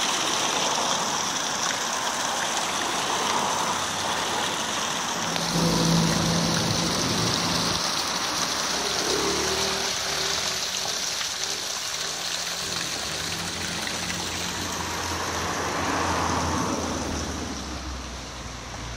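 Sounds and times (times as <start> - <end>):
waterfall splashing into basin: 0.0 - 18.9.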